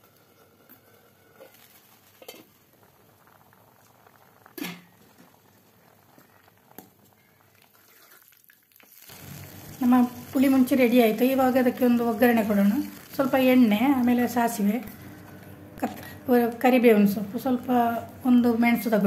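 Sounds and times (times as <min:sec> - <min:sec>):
gravy bubbling in a pot: 0:00.0 - 0:17.5.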